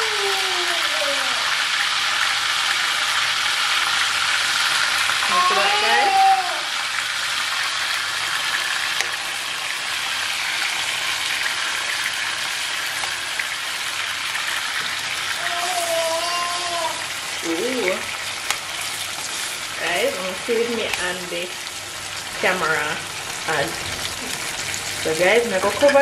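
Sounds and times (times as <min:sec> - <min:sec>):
meat sizzling in a pan: 0:00.0 - 0:26.0.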